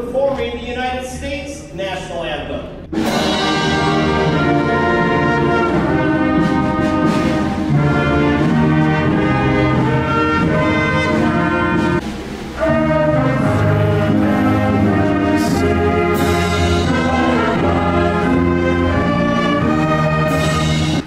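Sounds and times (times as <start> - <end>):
saxophones and flute playing: 3.0 - 21.0.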